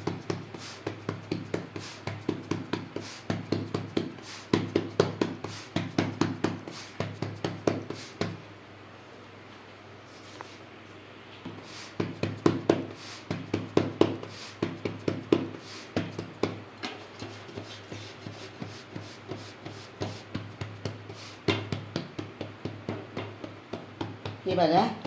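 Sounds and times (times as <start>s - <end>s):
hands patting dough: 0.0s - 8.4s, 11.4s - 25.0s.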